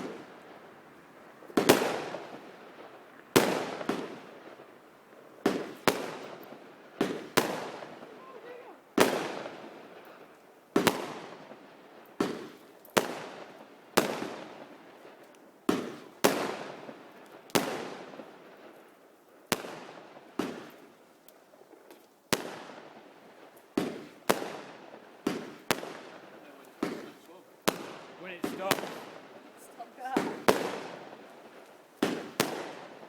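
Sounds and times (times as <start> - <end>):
fireworks exploding: 0.0 - 33.0.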